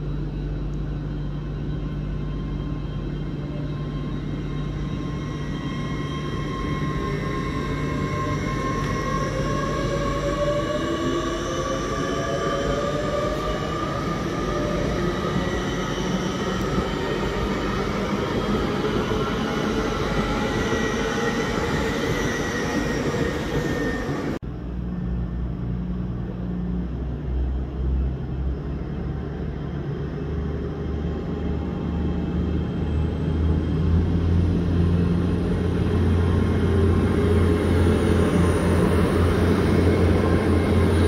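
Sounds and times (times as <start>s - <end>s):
traction gear whine rising: 0.0s - 24.9s, 25.7s - 41.0s
train approaching low rumble: 0.0s - 41.0s
train wheel and rail noise: 0.0s - 41.0s.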